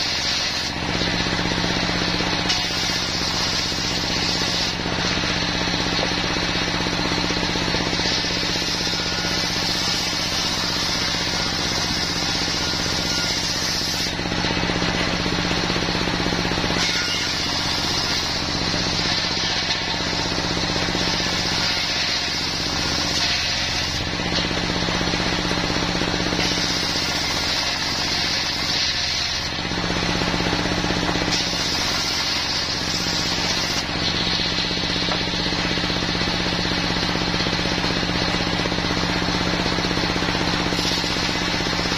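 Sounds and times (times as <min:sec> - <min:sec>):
circular saw cutting wood: 0:00.0 - 0:41.9
diesel engine running: 0:00.7 - 0:13.1, 0:14.1 - 0:16.8, 0:17.5 - 0:21.7, 0:22.4 - 0:28.7, 0:29.4 - 0:41.9.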